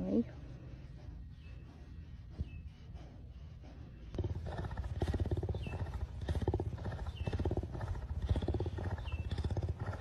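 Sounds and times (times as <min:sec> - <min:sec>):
cougar purring: 0:00.0 - 0:10.0.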